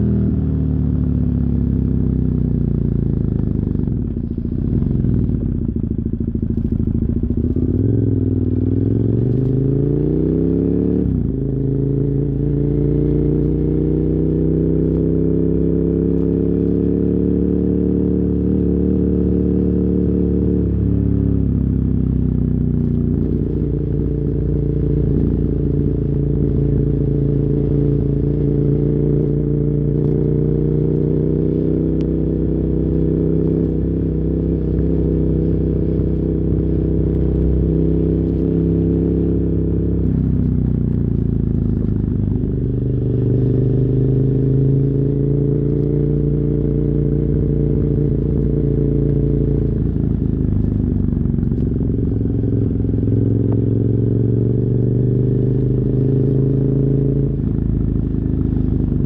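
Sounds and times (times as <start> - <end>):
muffled motorcycle engine cruising: 0.0 - 59.0.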